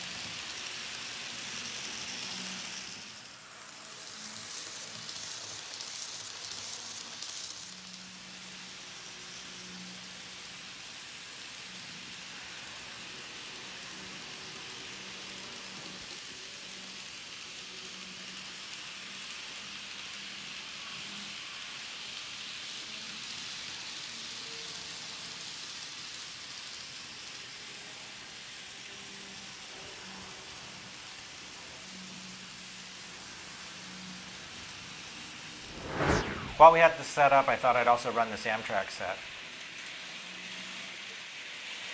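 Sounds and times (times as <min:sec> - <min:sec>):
model train running on track: 0:00.0 - 0:35.5, 0:37.2 - 0:41.9.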